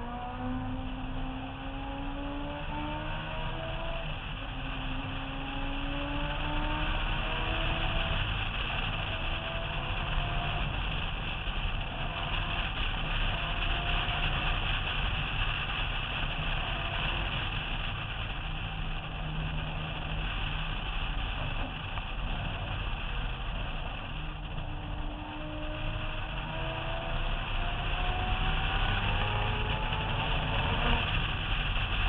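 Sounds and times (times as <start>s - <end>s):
car engine: 0.0s - 32.0s.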